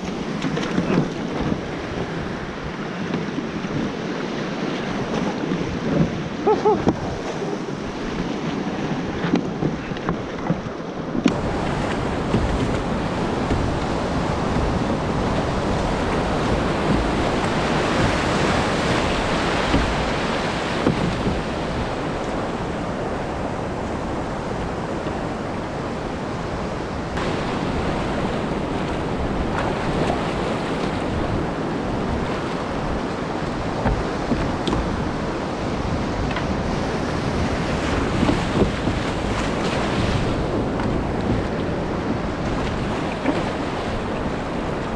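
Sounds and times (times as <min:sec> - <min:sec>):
surf breaking: 0:00.0 - 0:25.6, 0:27.0 - 0:44.9
water washing around hulls: 0:00.0 - 0:44.9
wind noise on microphone: 0:00.0 - 0:44.9.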